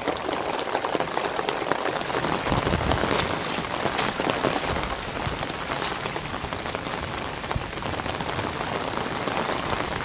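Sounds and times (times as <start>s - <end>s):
close raindrop hits: 0.0s - 10.0s
heavy rain on water and grass: 0.0s - 10.0s.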